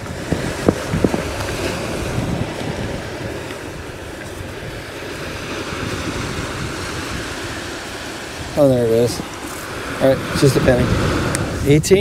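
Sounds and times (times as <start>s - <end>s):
ocean surf washing in: 0.0s - 12.0s
wind buffeting microphone: 0.0s - 12.0s.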